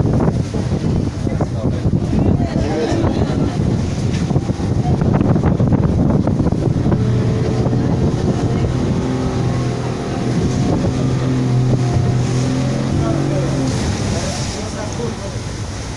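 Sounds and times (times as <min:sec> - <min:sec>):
motorboat engine running: 0:00.0 - 0:15.9
wind buffeting microphone: 0:00.0 - 0:15.9.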